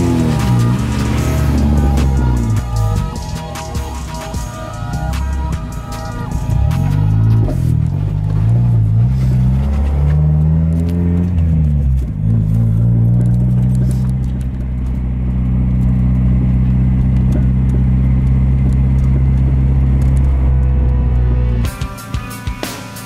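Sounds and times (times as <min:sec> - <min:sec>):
car engine heard from inside cabin: 0:00.0 - 0:21.7.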